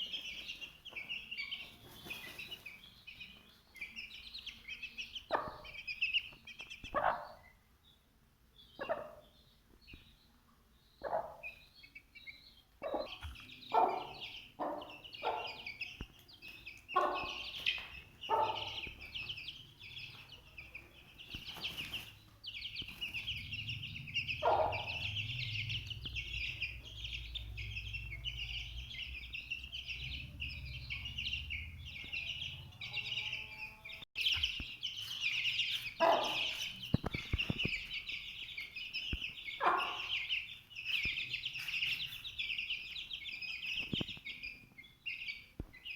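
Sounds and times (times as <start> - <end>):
chickens calling: 0.0 - 7.6, 11.0 - 45.9
small birds chirping: 0.0 - 45.9.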